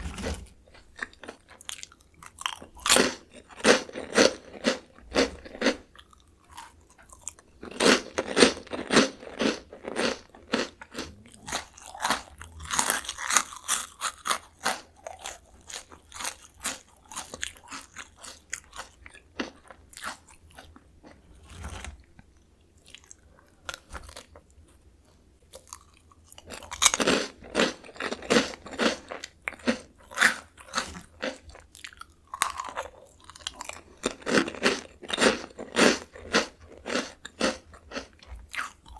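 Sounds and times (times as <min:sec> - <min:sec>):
crunching and chewing crisp snack: 0:00.0 - 0:38.9.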